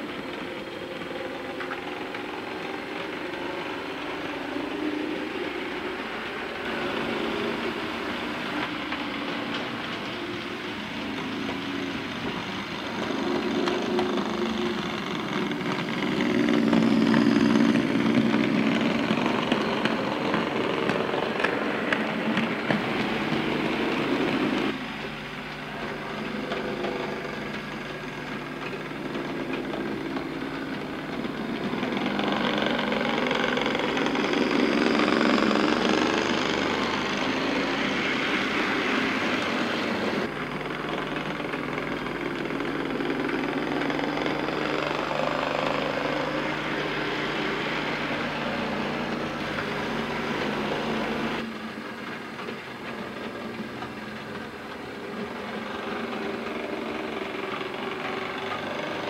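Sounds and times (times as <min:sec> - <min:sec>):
model train motor whirring: 0:00.0 - 0:59.0
wheels rattling along rails: 0:00.0 - 0:59.0.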